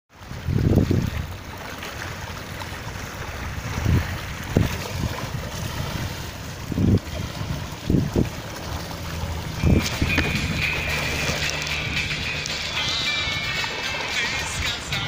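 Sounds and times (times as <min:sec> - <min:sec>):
small waves rushing on shore: 0:00.1 - 0:15.0
wind buffeting microphone: 0:00.2 - 0:01.6, 0:02.8 - 0:15.0.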